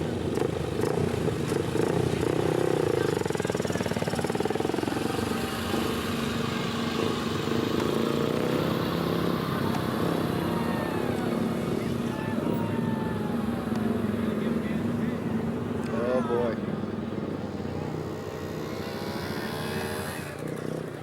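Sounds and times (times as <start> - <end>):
racing motorcycle engines: 0.0 - 21.0.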